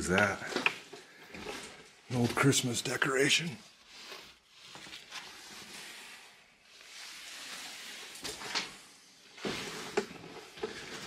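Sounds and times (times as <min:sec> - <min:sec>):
rustling and shuffling: 0:00.0 - 0:11.0.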